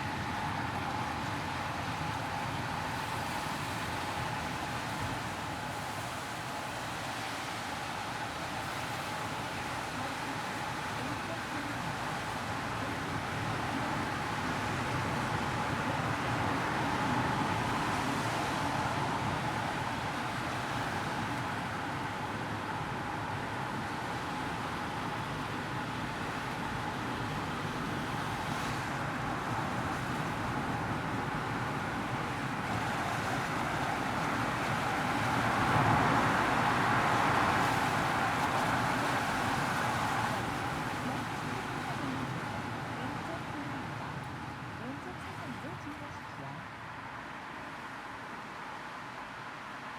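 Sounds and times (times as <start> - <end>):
highway traffic hum: 0.0 - 49.9.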